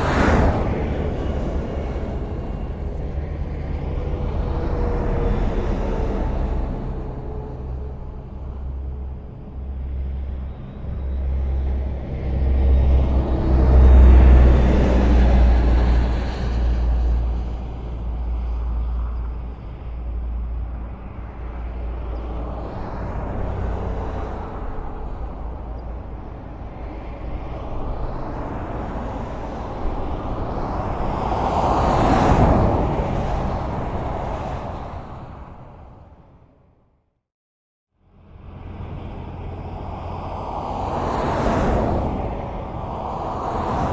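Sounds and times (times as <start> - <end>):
vehicles passing: 0.0 - 36.8, 38.0 - 43.9
highway traffic rumble: 0.0 - 37.1, 37.9 - 43.9.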